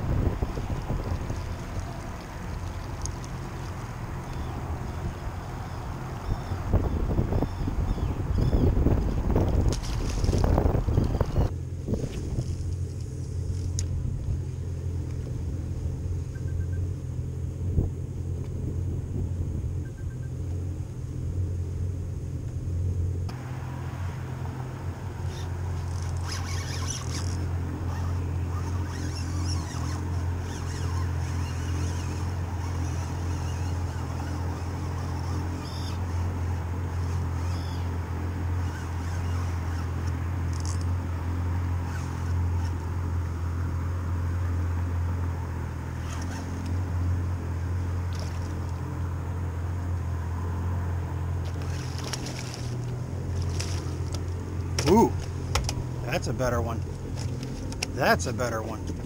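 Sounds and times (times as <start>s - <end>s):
low engine drone: 0.0s - 59.0s
low steady rumble: 0.0s - 59.0s.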